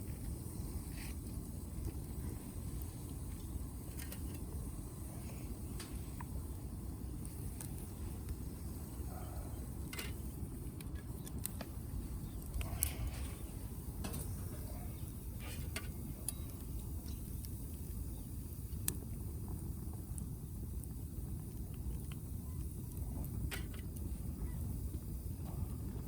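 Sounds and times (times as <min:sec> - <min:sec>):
steady low rumble: 0:00.0 - 0:26.0
wood fire crackling and popping: 0:00.0 - 0:26.0.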